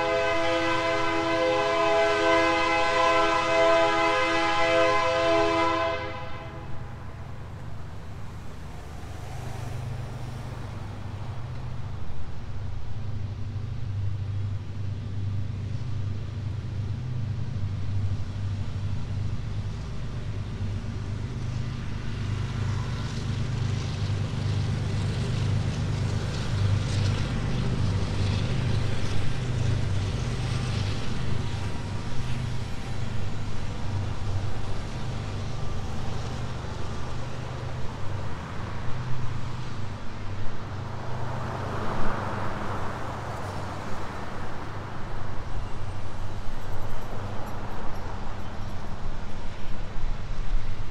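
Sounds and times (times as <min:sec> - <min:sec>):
road traffic hum: 0:00.0 - 0:50.9.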